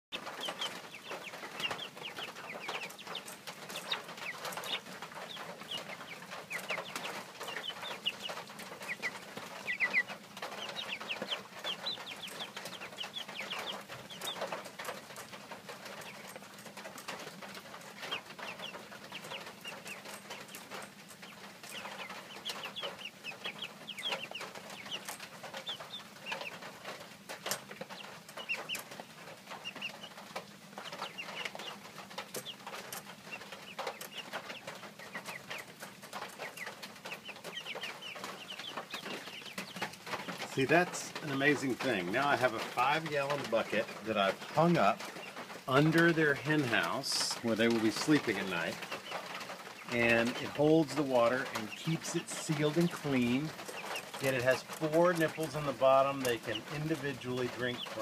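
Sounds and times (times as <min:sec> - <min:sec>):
hens clucking and chirping: 0:00.1 - 0:58.0.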